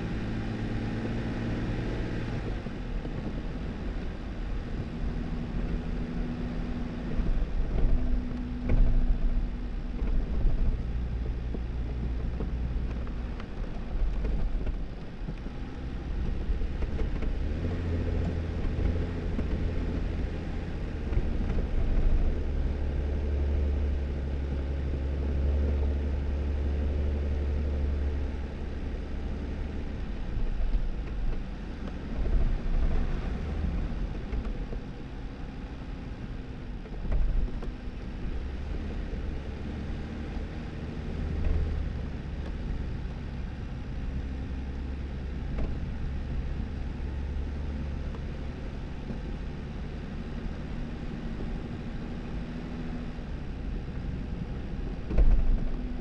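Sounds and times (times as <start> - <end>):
low engine hum: 0.0 - 56.0
tyre and road noise: 0.0 - 56.0.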